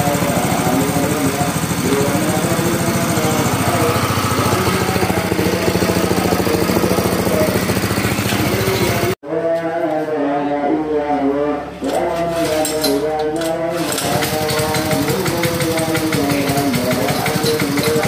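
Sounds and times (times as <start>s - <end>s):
small petrol engine running: 0.0s - 9.2s, 11.9s - 18.0s.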